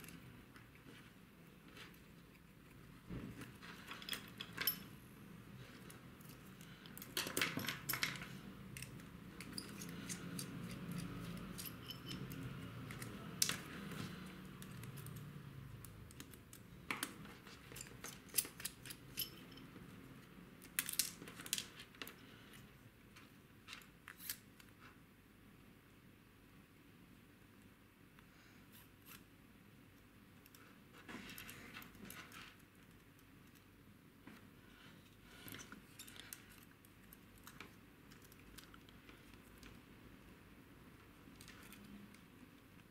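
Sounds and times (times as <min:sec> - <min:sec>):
small parts clicking and rattling: 0:00.0 - 0:24.8, 0:30.4 - 0:34.4, 0:35.3 - 0:39.9, 0:41.1 - 0:42.9.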